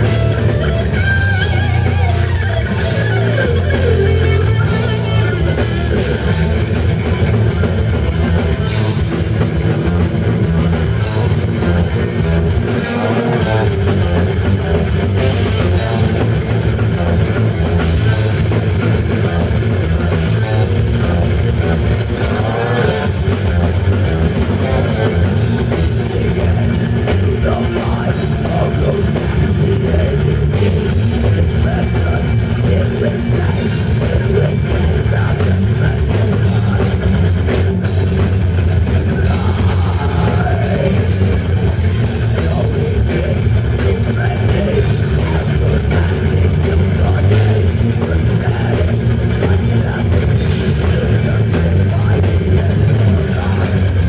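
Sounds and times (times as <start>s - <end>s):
bending lead guitar line: 0.0s - 54.0s
heavy metal band playing: 0.0s - 54.0s.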